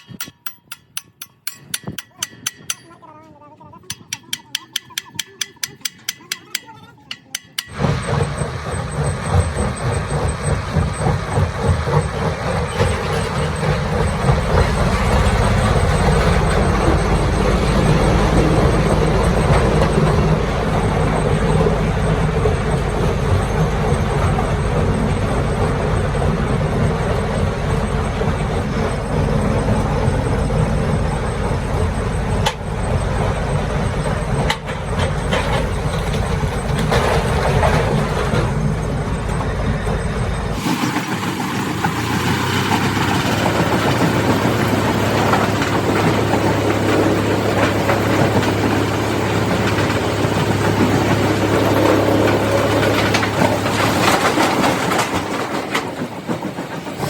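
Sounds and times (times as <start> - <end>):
heavy engine running: 4.0 - 57.0.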